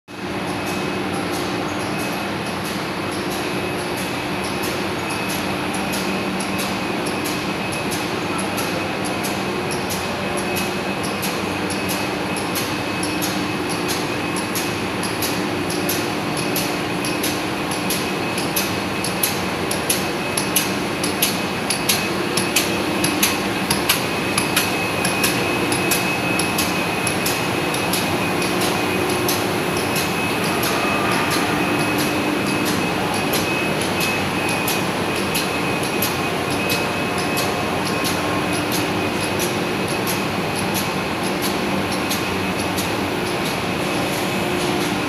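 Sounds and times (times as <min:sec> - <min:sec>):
machinery humming with high whine: 0:00.1 - 0:45.0
regular mechanical ticking: 0:00.2 - 0:45.0.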